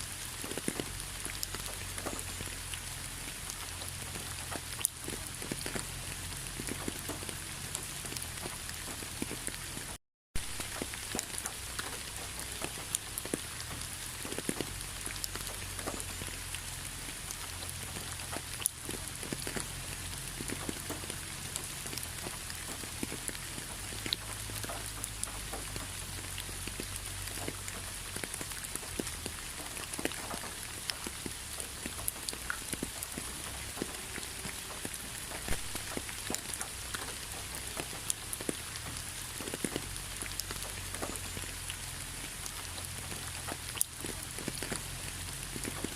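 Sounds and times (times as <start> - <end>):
rain drops pattering: 0.0 - 45.9.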